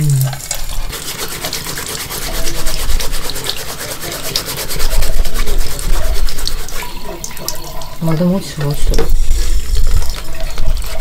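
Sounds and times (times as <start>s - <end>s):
metal mesh cloth scrubbing mess tin: 0.4s - 11.0s.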